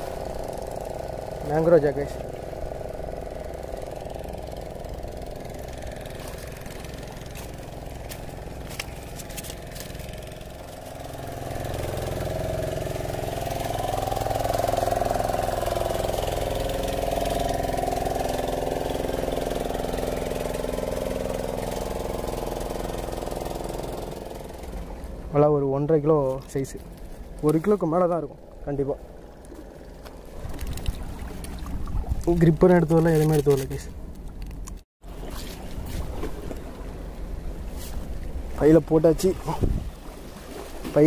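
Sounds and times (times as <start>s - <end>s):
engine running: 0.0s - 41.0s.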